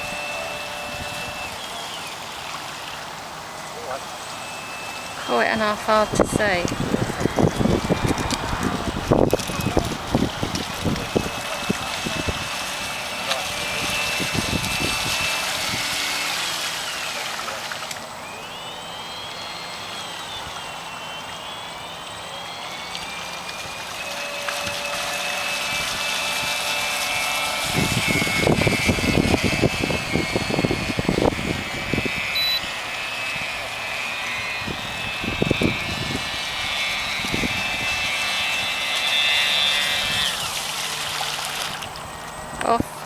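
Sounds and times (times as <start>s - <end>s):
model boat motor whining: 0.0s - 43.0s.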